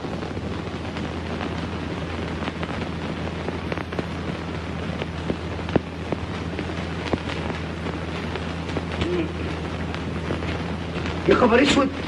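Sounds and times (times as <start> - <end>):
low hum: 0.0 - 12.0
small crackles: 0.0 - 12.0
steady hiss: 0.0 - 12.0.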